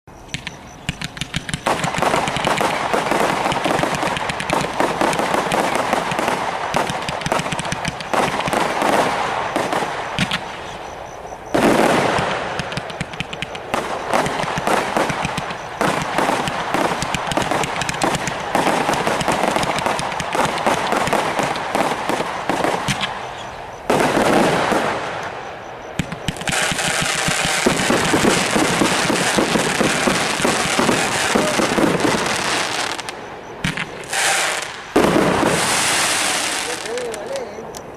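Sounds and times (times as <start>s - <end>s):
firework cake firing rapid shots: 0.4s - 10.5s, 11.6s - 23.2s, 23.9s - 25.2s, 25.9s - 37.4s.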